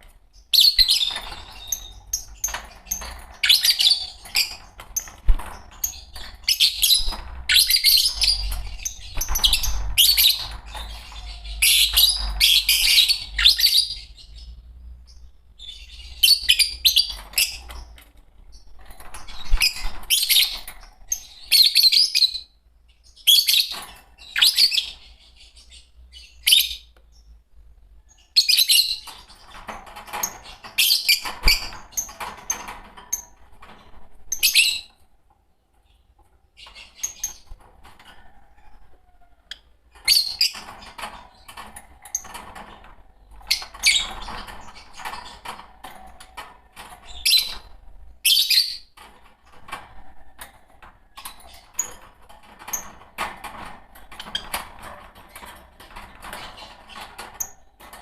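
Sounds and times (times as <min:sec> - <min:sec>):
lovebirds chirping and chattering: 0:00.0 - 0:58.0.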